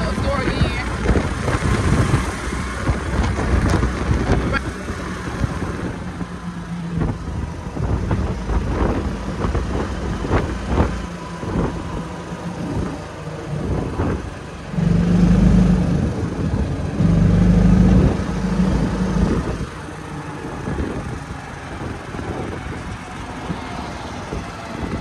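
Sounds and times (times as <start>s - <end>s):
car engine running: 0.0s - 23.6s
low droning: 0.8s - 22.8s.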